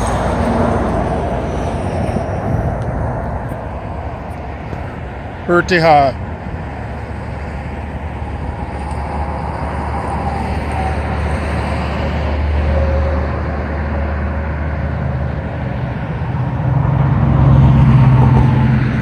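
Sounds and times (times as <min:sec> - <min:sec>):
traffic rumble: 0:00.0 - 0:19.0
vehicle engine: 0:00.0 - 0:19.0.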